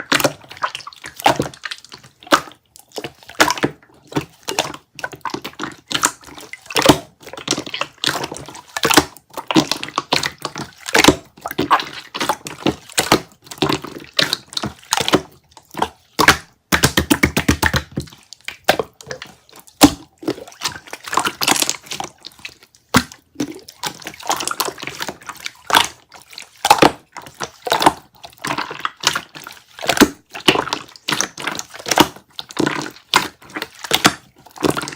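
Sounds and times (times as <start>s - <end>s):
slime squished by hand: 0.0s - 34.9s.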